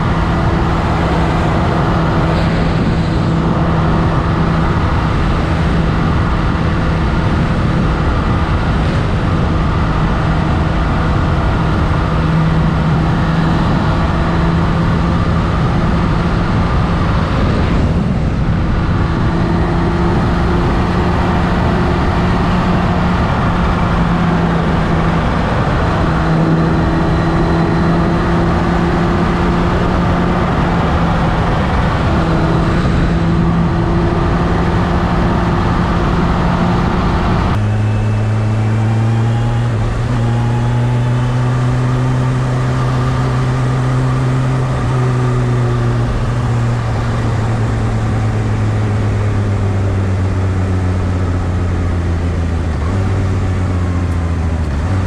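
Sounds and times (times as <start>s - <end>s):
motorcycle engine cruising: 0.0s - 55.0s
wind noise on microphone: 0.0s - 55.0s.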